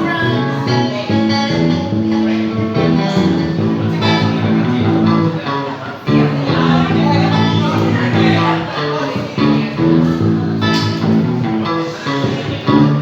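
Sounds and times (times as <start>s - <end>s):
live reggae band playing: 0.0s - 13.0s.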